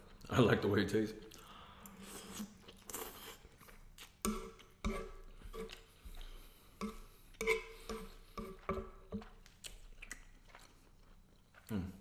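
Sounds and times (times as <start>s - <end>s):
person chewing: 1.2s - 12.0s.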